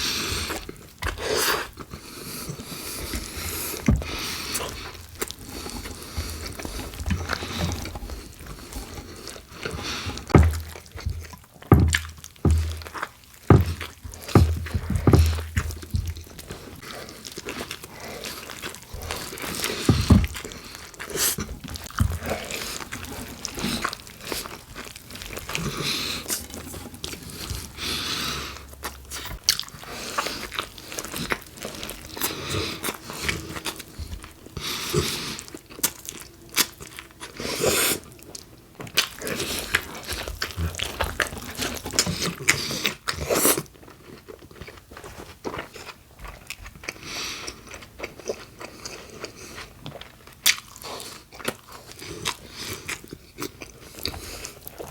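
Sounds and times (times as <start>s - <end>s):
crunchy biting and chewing: 0.0s - 54.9s.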